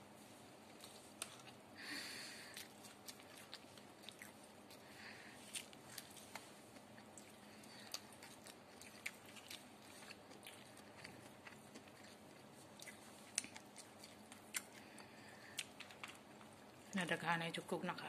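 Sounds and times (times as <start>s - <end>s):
person chewing dried fish: 0.7s - 16.9s.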